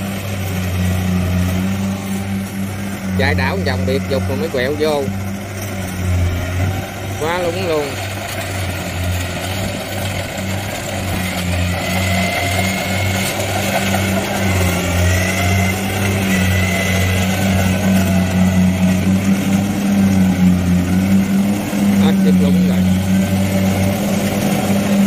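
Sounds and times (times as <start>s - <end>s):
clatter of working machinery: 0.0s - 25.0s
combine harvester engine running: 0.0s - 25.0s.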